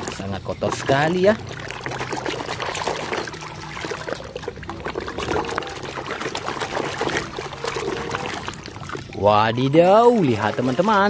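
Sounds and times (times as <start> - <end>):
water splashing in a basin: 0.0 - 11.0.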